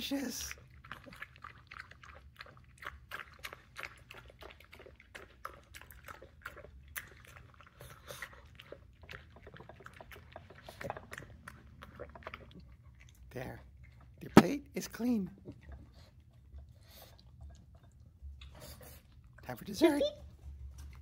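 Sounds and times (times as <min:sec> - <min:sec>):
dog chewing and licking wet food: 0:00.0 - 0:21.0.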